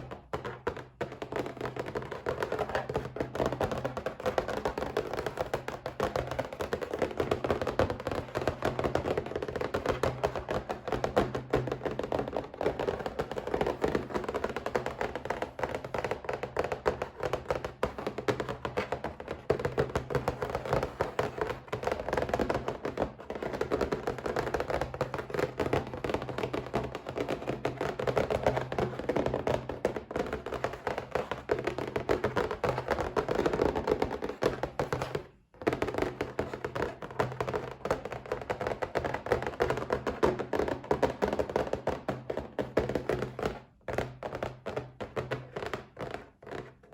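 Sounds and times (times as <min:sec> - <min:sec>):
rapid tapping on a box: 0:00.0 - 0:46.9.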